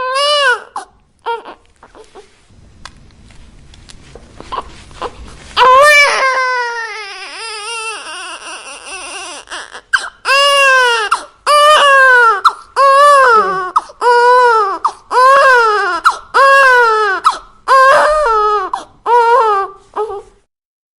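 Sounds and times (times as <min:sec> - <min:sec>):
newborn baby crying: 0:00.0 - 0:02.3, 0:04.4 - 0:20.5.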